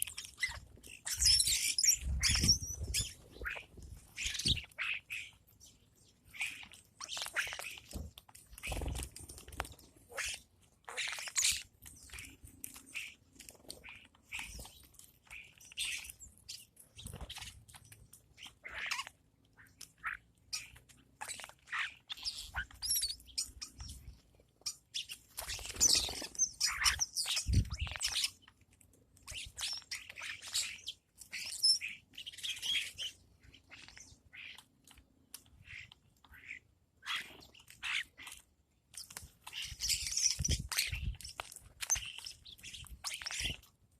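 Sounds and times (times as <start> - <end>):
birds chirping and squawking: 0.0 - 43.8.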